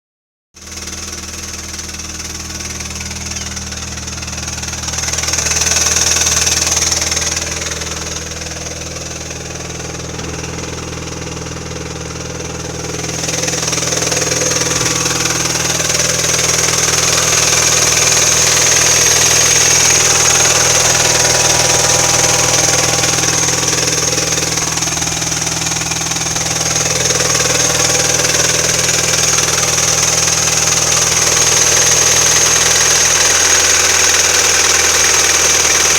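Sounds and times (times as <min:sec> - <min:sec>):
car engine idling: 0:00.6 - 0:35.9.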